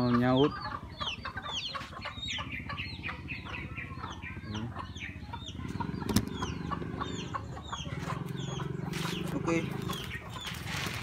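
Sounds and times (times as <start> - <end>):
chicks peeping: 0.0 - 11.0
hen clucking: 0.0 - 11.0.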